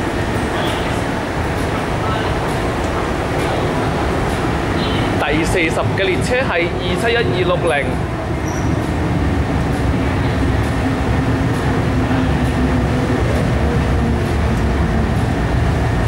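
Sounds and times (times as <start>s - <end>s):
faint train whine: 0.0s - 16.0s
metro train rumble: 0.0s - 16.0s.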